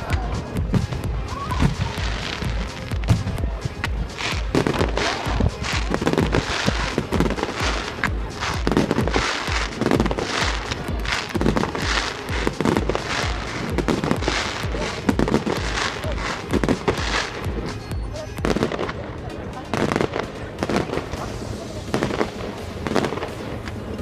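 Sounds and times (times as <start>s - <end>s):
fireworks bursting: 0.0s - 24.0s
music with low beat: 0.0s - 24.0s.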